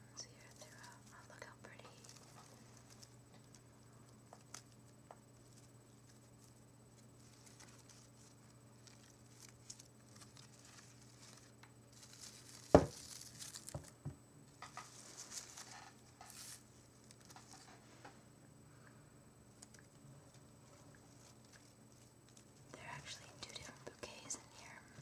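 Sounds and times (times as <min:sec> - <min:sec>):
fingers rustling through flowers: 0:00.3 - 0:14.0, 0:14.8 - 0:18.0, 0:19.5 - 0:25.0.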